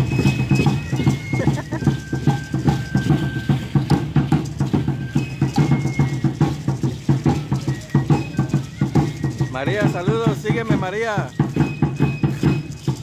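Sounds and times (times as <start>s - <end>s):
drum beating quick rhythm: 0.0s - 13.0s
seed-pod ankle rattles: 0.0s - 13.0s.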